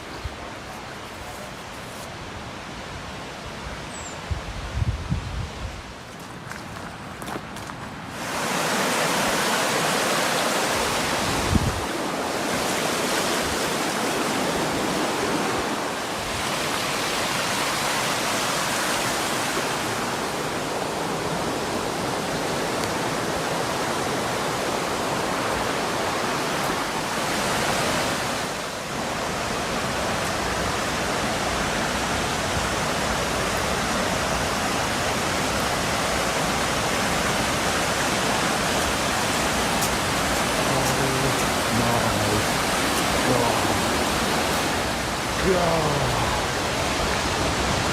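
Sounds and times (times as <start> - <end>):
waterfall rushing and splashing: 6.5 - 47.9.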